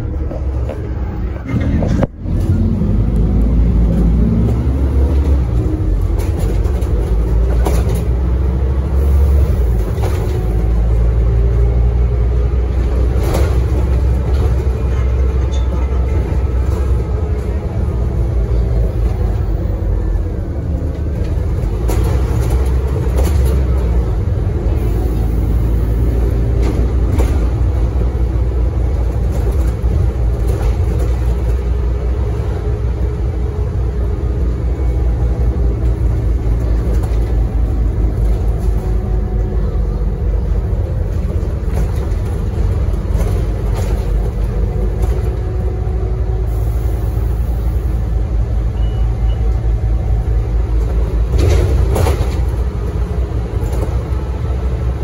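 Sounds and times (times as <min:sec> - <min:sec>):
bus diesel engine idling: 0:00.0 - 0:55.0.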